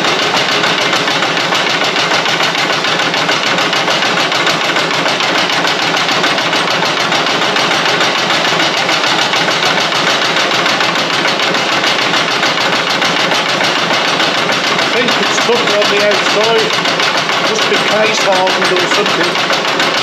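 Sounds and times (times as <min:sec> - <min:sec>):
milling machine cutting metal: 0:00.0 - 0:20.0.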